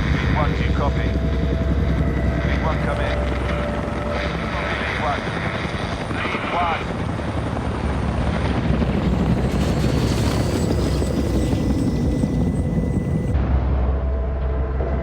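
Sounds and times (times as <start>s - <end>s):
helicopter rotor and turbine: 0.0s - 15.0s
low steady drone: 0.0s - 15.0s.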